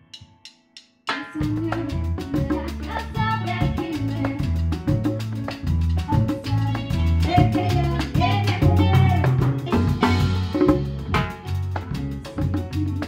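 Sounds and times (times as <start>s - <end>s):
congas played by hand: 0.0s - 13.0s
salsa music recording: 0.0s - 13.0s.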